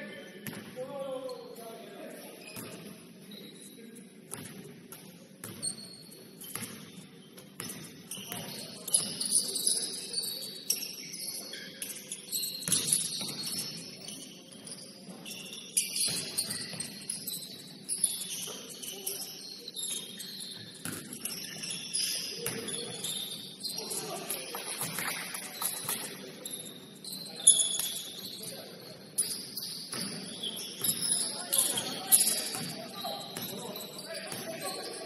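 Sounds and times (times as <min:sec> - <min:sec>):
shoes squeaking on gym floor: 0:01.4 - 0:04.0, 0:05.1 - 0:35.0.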